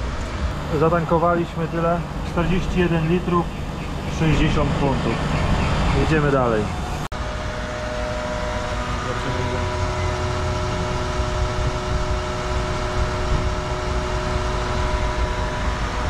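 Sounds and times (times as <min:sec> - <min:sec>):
fuel pump motor humming: 0:00.0 - 0:16.0
low rumble: 0:00.0 - 0:16.0.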